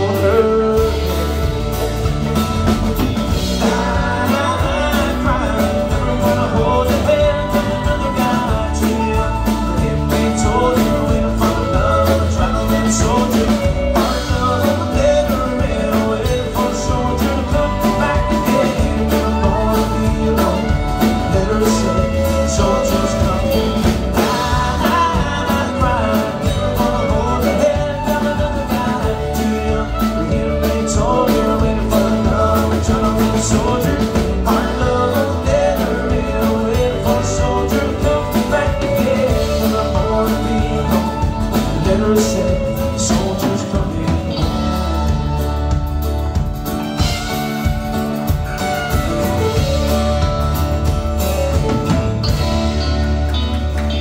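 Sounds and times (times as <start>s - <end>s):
live country rock band: 0.0s - 54.0s.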